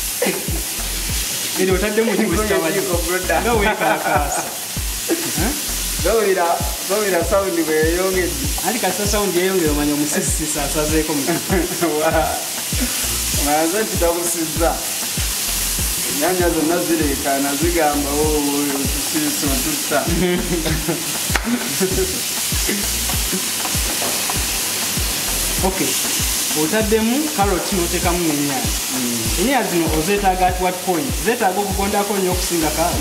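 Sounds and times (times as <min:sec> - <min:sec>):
vegetables sizzling in hot oil: 0:00.0 - 0:33.0
person speaking: 0:01.6 - 0:14.9, 0:16.0 - 0:23.6, 0:25.4 - 0:33.0.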